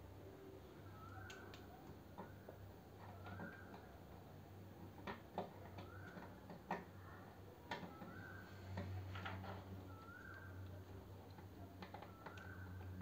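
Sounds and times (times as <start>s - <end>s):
faint plastic clicks: 0.8s - 13.0s.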